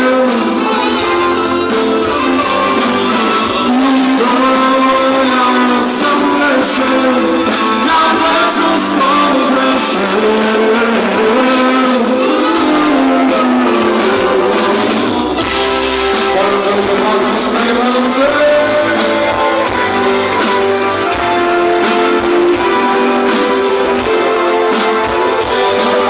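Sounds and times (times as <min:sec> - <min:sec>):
drums: 0:00.0 - 0:26.0
electric guitar: 0:00.0 - 0:26.0.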